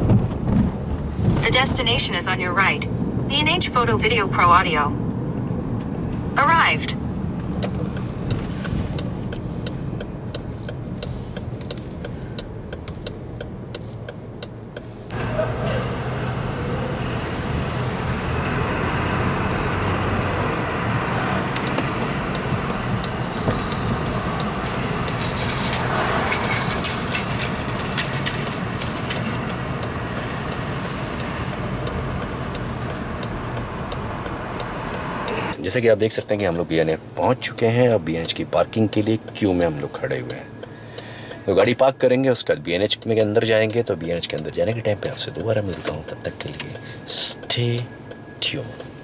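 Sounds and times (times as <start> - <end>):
car running in traffic: 0.0 - 49.0
street and traffic noise: 0.0 - 49.0
turn signal ticking: 1.4 - 15.3, 18.2 - 49.0.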